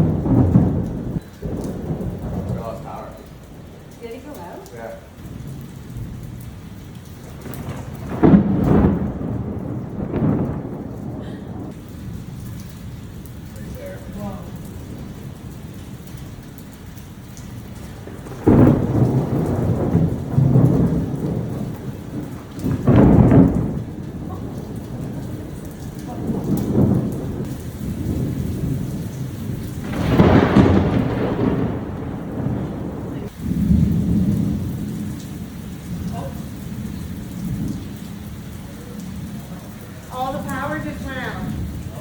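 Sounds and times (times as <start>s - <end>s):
thunder crash: 0.0s - 4.6s, 5.2s - 16.4s, 17.4s - 42.0s
heavy rain: 0.0s - 42.0s
rolling thunder rumbles: 0.0s - 42.0s.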